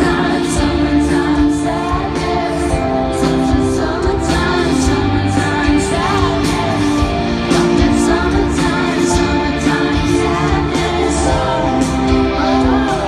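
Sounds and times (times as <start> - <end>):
live pop band: 0.0 - 13.0
woman singing: 0.0 - 13.0.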